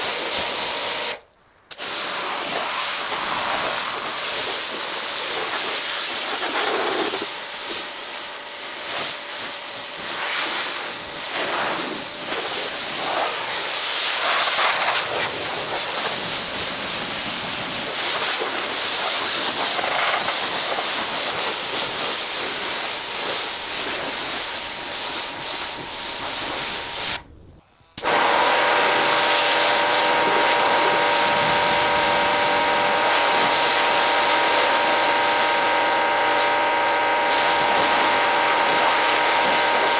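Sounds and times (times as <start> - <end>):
pressure washer motor humming: 0.0 - 27.4, 28.0 - 39.9
water spray hissing on car: 1.9 - 27.2, 28.2 - 39.9.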